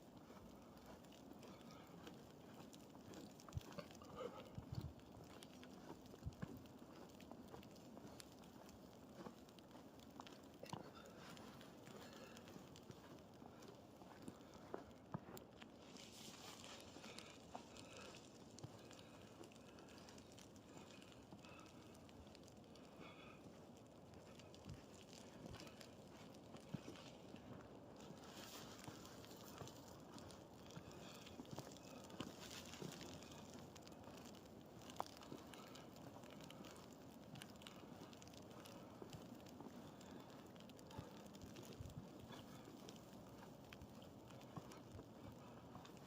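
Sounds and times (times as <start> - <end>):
faint ticks and crackles: 0.0 - 46.0.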